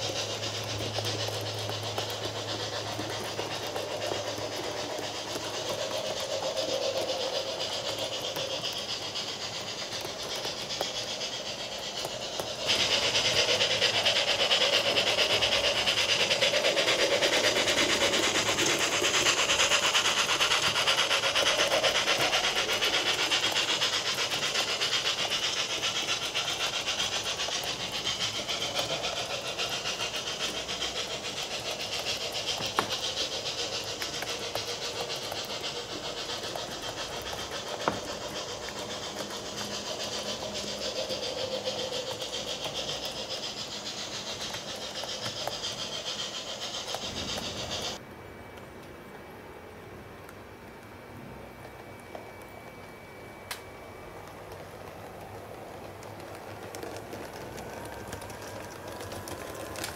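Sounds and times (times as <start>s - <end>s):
model train whirring on track: 0.0s - 59.9s.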